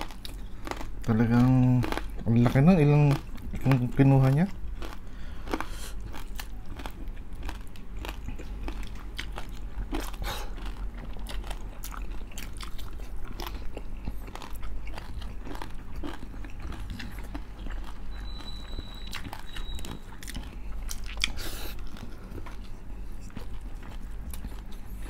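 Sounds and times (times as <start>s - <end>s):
crunchy biting and chewing: 0.0s - 25.0s.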